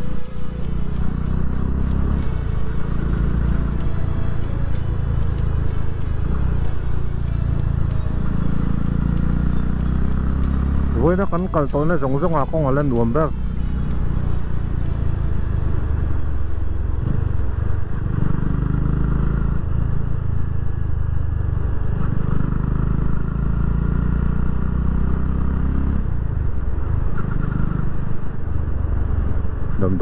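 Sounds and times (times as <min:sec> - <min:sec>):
motorcycle engine running: 0:00.0 - 0:29.9
wind and road rumble: 0:00.0 - 0:30.0.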